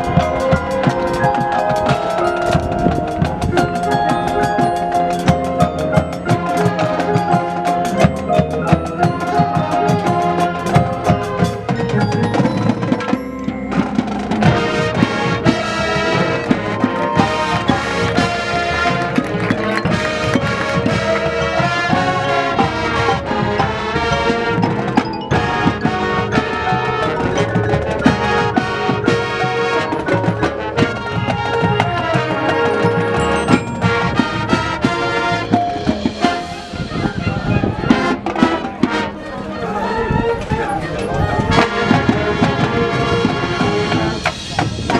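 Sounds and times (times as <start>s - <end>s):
drums and percussion hits: 0.0s - 39.3s, 40.4s - 44.9s
marching band playing: 0.0s - 44.9s.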